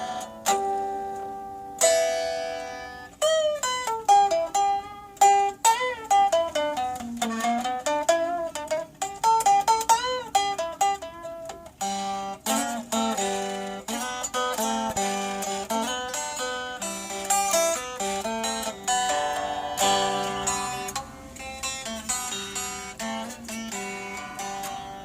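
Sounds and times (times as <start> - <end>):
plucked string instrument riff: 0.0 - 25.0.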